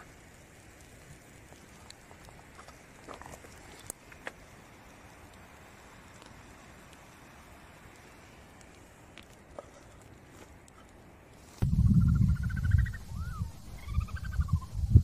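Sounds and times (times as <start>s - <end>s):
embers crackling: 0.0s - 15.0s
embers hissing: 0.0s - 15.0s.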